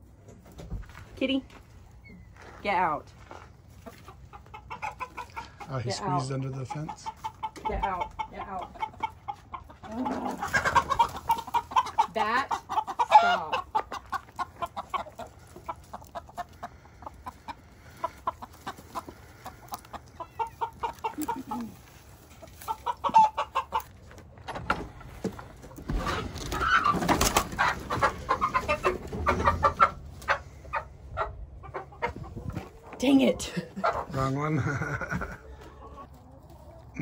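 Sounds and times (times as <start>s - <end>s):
chickens clucking: 0.0s - 37.0s
chickens scuffling: 0.0s - 37.0s.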